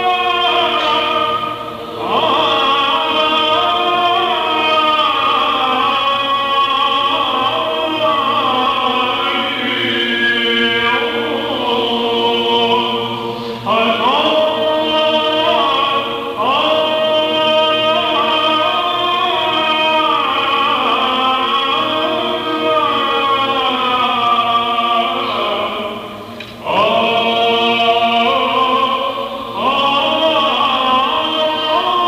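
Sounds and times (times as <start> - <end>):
held vocal drone: 0.0 - 32.0
person chanting a melody: 0.0 - 32.0.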